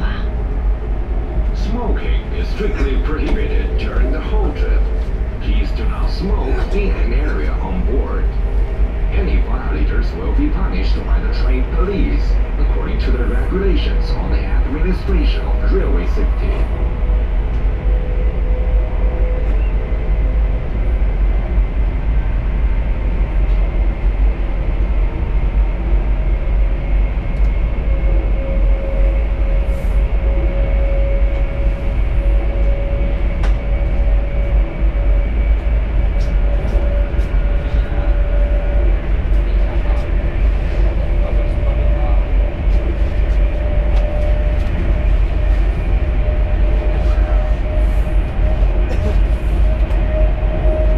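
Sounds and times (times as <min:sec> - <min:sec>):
train cabin low rumble: 0:00.0 - 0:50.9.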